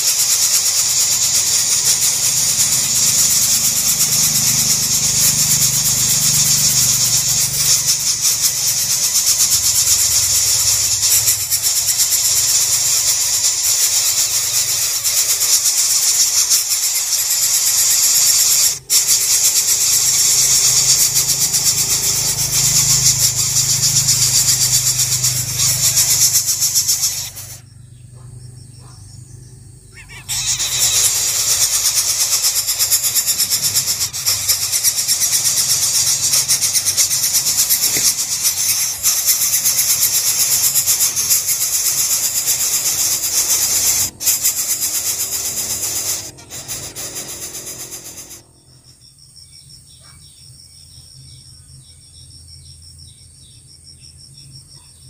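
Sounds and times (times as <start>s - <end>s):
nestlings begging buzzing hiss: 0.0s - 28.2s, 28.8s - 49.0s.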